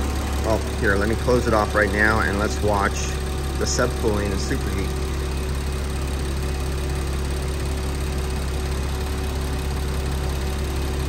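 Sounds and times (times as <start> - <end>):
air conditioning compressor hum: 0.0 - 11.0
car engine idling: 0.0 - 11.0.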